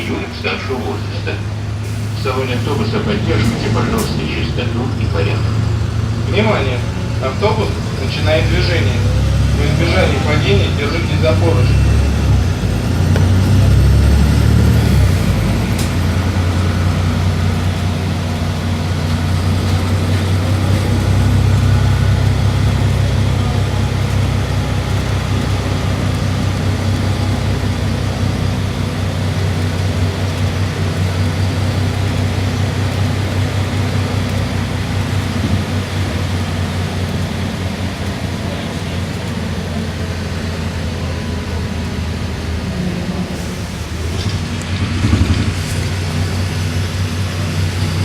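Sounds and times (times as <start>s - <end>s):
bus engine droning: 0.0s - 48.0s
road noise: 0.0s - 48.0s.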